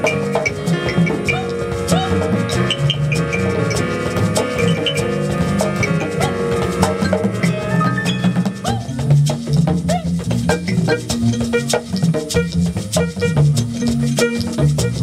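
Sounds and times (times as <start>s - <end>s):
double bass line: 0.0s - 15.0s
hand percussion: 0.0s - 15.0s.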